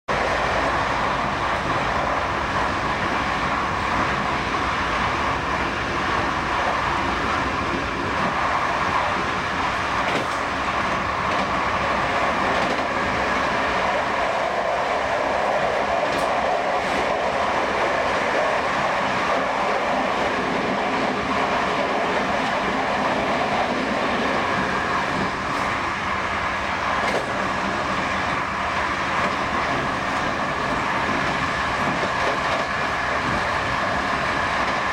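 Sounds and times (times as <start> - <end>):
train wheels rolling on rails: 0.1 - 34.9.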